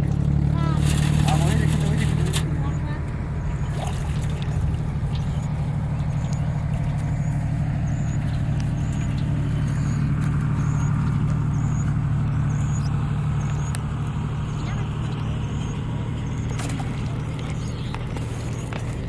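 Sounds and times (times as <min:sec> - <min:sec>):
motor engine humming: 0:00.0 - 0:19.0.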